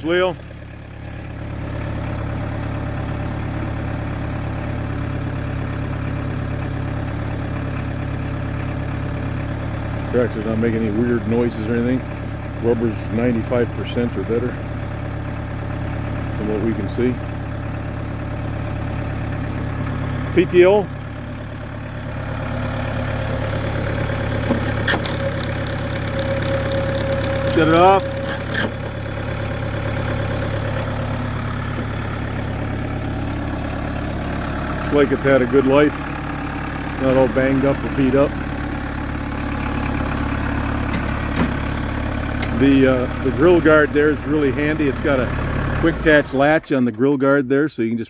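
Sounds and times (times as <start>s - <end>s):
diesel tractor engine running: 0.0s - 47.8s.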